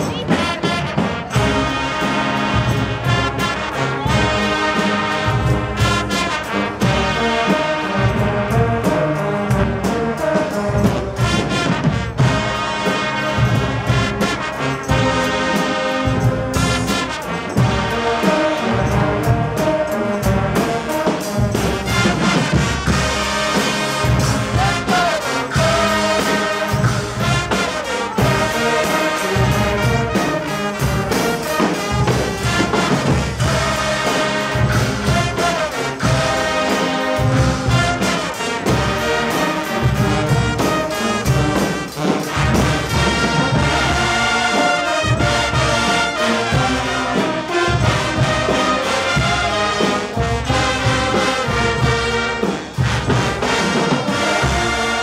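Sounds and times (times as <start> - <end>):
brass band playing: 0.0 - 55.0
drum beat: 0.0 - 55.0.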